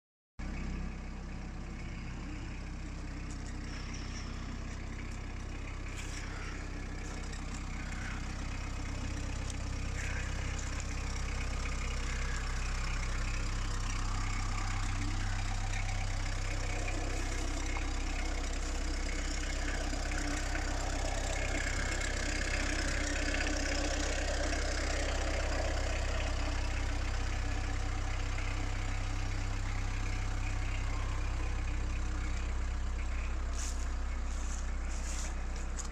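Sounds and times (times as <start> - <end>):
van engine idling: 0.4 - 35.9.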